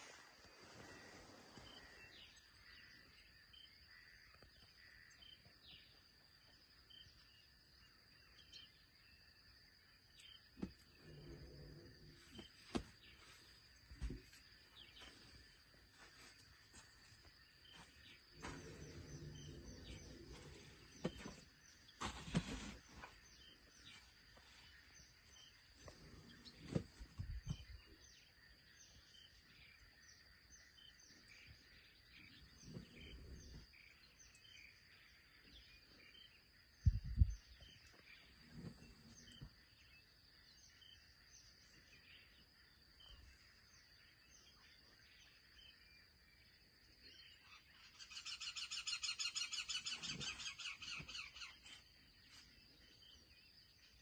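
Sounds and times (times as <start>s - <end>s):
bird chirps: 0.0s - 54.0s.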